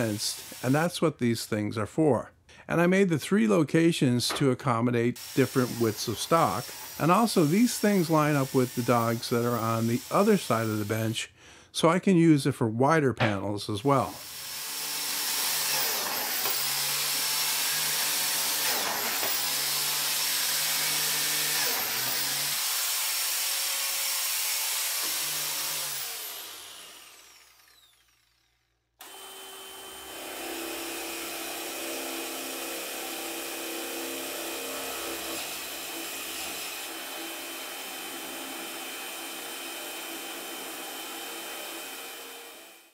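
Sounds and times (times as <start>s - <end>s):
biscuit joiner cutting wood: 0.0s - 0.9s, 5.2s - 11.1s, 13.9s - 42.9s.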